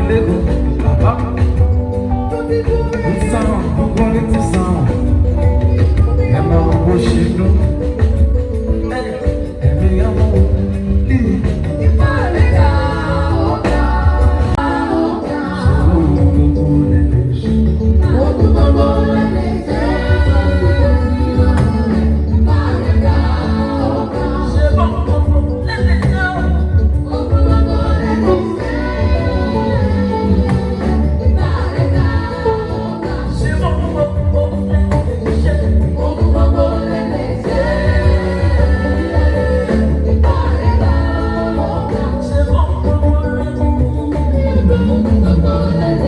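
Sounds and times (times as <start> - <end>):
band music with singing: 0.0 - 46.0
strong bass line: 0.0 - 46.0.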